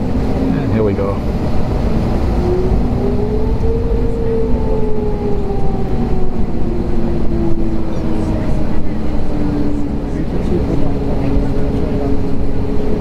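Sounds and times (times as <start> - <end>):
aircraft cabin rumble: 0.0 - 13.0
faint jet engine tones: 0.0 - 13.0.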